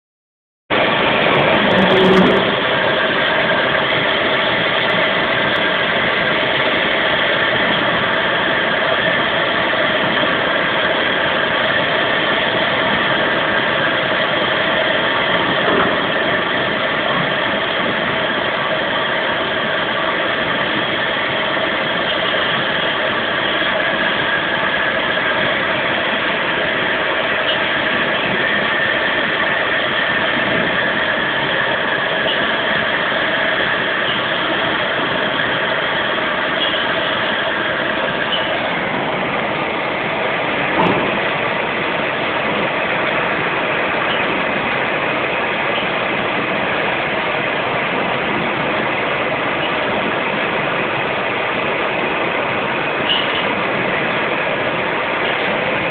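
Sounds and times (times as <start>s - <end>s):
steady machine tones: 0.7s - 55.9s
laser cutting machine humming: 0.8s - 55.9s.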